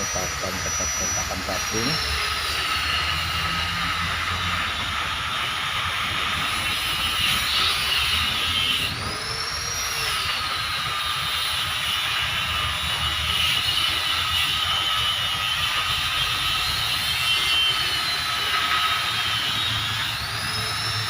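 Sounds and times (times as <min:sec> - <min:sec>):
machine whine and hiss: 0:00.0 - 0:21.0.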